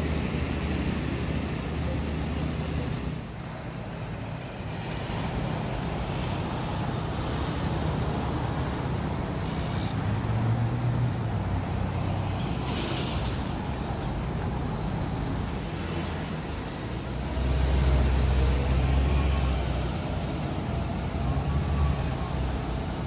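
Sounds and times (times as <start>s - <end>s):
bus engine humming: 0.0s - 23.0s
road traffic noise: 0.0s - 23.0s.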